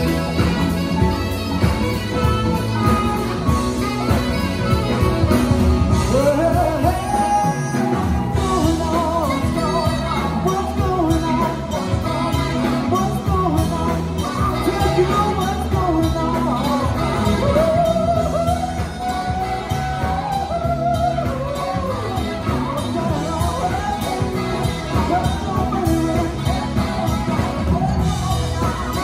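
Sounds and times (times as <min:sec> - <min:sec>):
lead melody line sliding up: 0:00.0 - 0:29.0
live band playing: 0:00.0 - 0:29.0.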